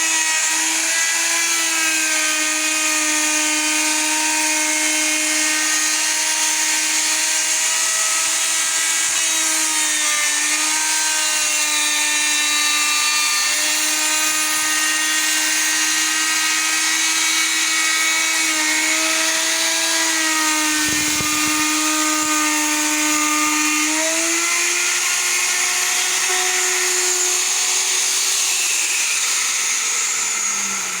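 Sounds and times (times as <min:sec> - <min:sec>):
electric wood router whining: 0:00.0 - 0:31.0.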